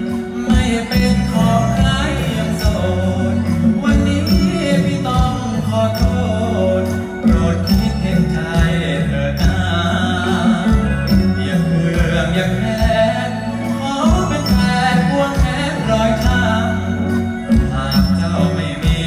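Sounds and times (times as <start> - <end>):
live band music: 0.0 - 19.0
man singing into microphone: 0.0 - 19.0.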